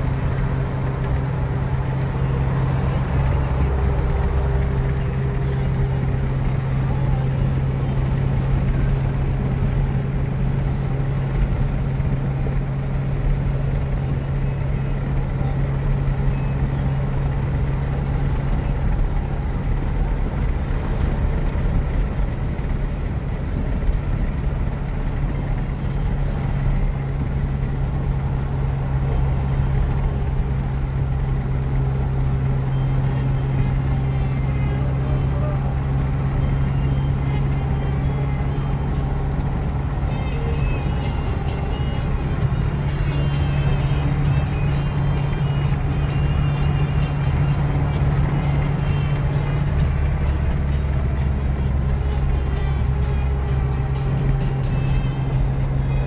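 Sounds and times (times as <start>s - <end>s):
car road and engine noise: 0.0s - 56.0s
constant low hum: 0.0s - 56.0s.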